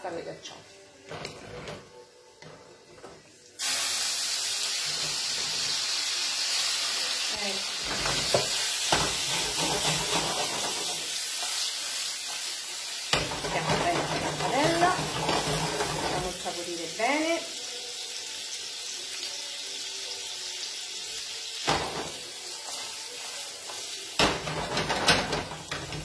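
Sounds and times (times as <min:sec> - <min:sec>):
ravioli sizzling in a frying pan: 0:00.0 - 0:26.0.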